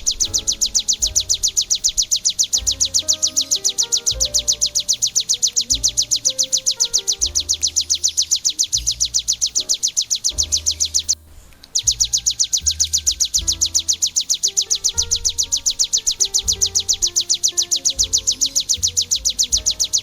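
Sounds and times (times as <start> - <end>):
background music with pulsing bass: 0.0 - 20.0
bird singing a fast trill: 0.0 - 20.0.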